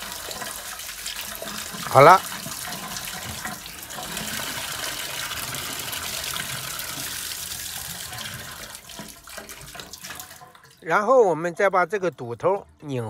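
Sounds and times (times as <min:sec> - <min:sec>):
tap water splashing into tub: 0:00.0 - 0:10.8
water draining down drain: 0:00.0 - 0:12.2.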